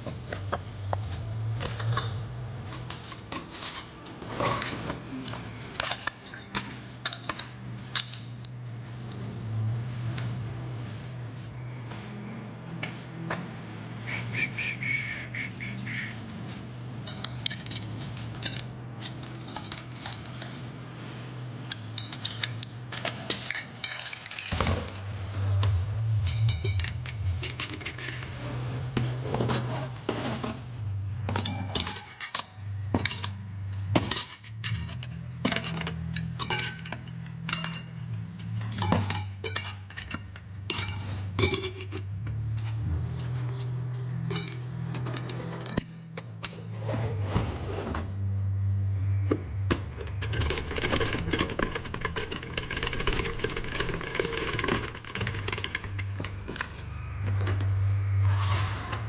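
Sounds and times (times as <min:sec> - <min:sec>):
background music with bass: 0:00.0 - 0:59.0.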